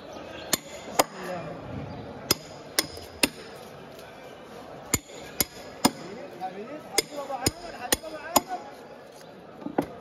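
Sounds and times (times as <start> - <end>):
murmur of voices: 0.0 - 10.0.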